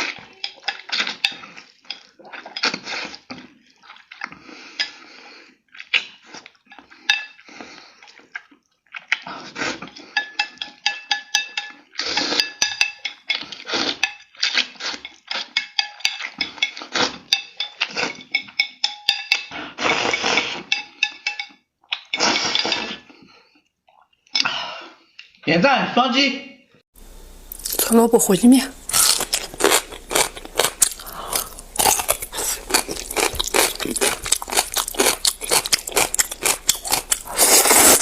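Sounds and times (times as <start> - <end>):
noodle slurping and chewing: 0.0 - 24.4, 28.7 - 38.0.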